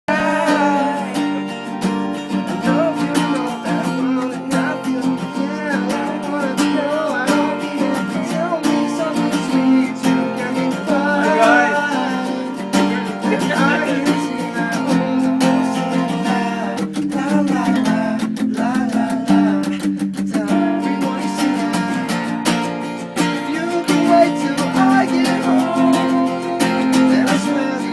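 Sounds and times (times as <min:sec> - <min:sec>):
strummed guitar music: 0:00.1 - 0:27.9.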